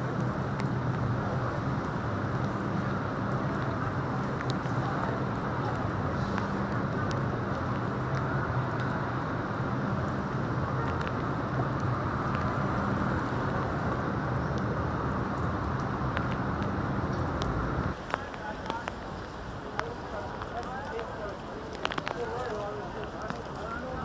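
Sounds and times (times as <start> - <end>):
traffic on wet street: 0.0 - 24.0.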